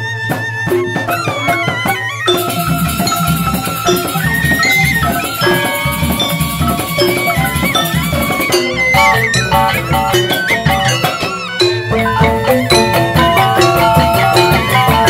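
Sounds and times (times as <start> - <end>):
sliding flute-like melody: 0.0 - 15.0
struck bamboo-keyed notes: 0.0 - 15.0
steady drum beat: 0.6 - 15.0.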